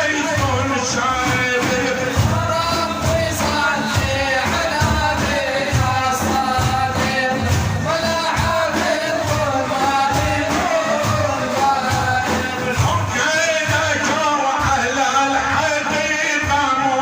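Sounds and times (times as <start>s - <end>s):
person singing devotional song: 0.0s - 17.0s
low drum beat: 0.1s - 16.8s.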